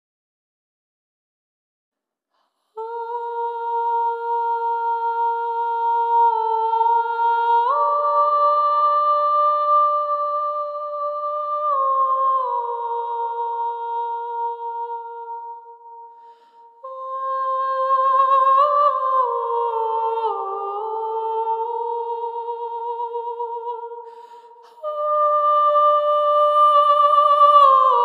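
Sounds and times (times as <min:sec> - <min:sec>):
slow wordless melody: 0:02.8 - 0:28.0.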